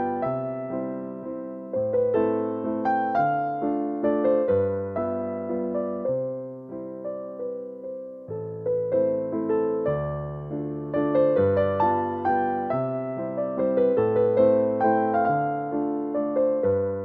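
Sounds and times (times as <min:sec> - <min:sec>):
slow piano notes: 0:00.0 - 0:17.0.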